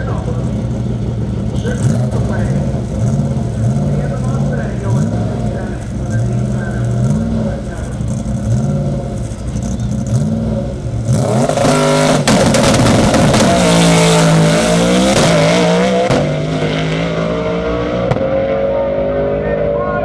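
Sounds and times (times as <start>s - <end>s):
drag car engine revving: 0.0s - 20.0s.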